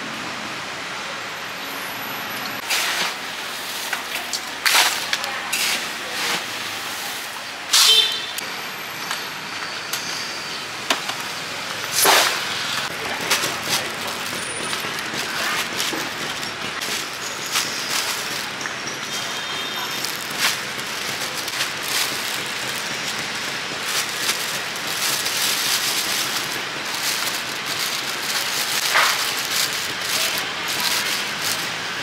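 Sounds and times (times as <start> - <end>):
wok stir-frying hiss: 2.6 - 8.4, 11.2 - 32.0.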